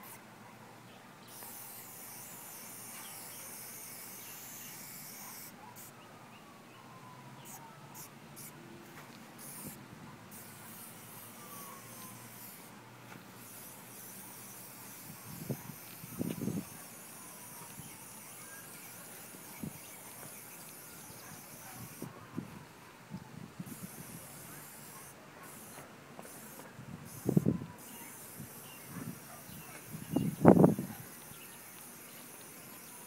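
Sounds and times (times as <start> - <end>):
spray paint can hissing: 0.0 - 0.2, 1.3 - 5.9, 7.4 - 22.1, 23.6 - 33.0.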